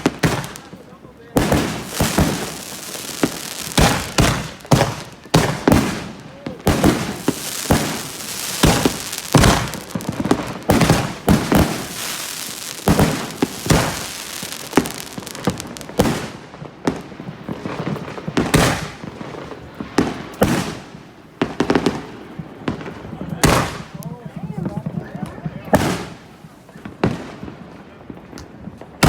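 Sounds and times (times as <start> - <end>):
crackling hiss of fireworks: 0.0 - 29.0
fireworks bangs: 0.0 - 29.0.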